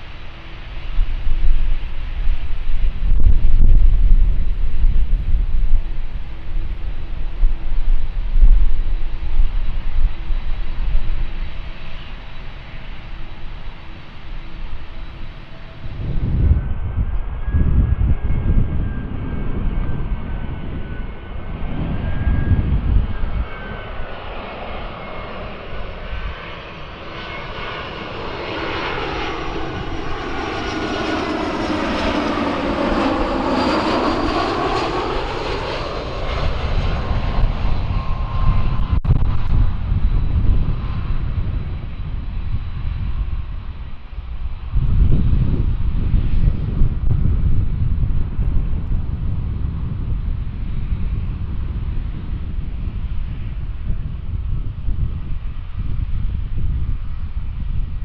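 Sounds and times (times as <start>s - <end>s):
jet airliner passing by: 0.0s - 58.0s
wind rumble on microphone: 0.0s - 58.0s.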